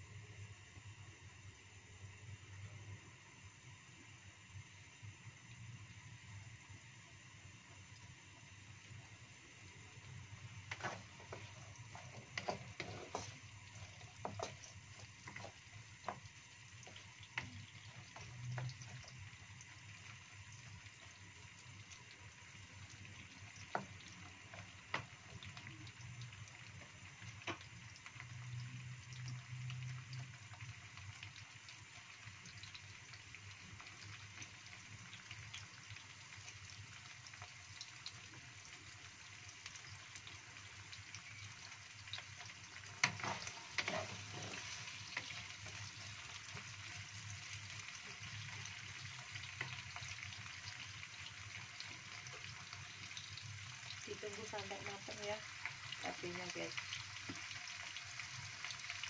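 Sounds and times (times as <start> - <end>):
food sizzling in oil: 0.0 - 59.0.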